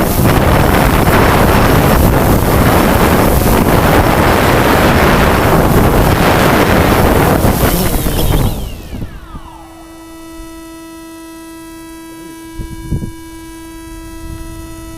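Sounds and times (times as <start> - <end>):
strong wind buffeting microphone: 0.0 - 10.4, 12.4 - 14.9.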